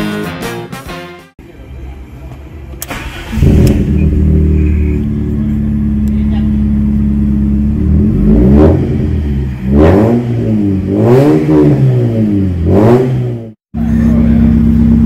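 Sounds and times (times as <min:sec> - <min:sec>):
car engine idling and revving: 0:01.6 - 0:15.0.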